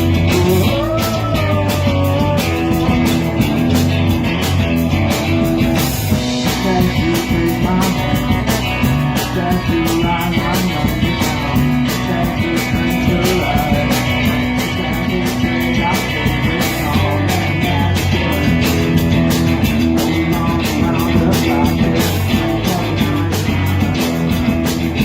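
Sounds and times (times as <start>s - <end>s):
bass guitar low notes: 0.0s - 25.0s
drum kit beat on cymbals: 0.0s - 25.0s.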